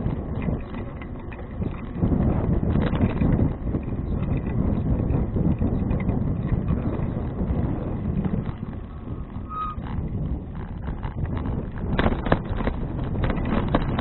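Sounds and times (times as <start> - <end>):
bicycle clicks and knocks: 0.0 - 14.0
wind buffeting microphone: 0.0 - 14.0.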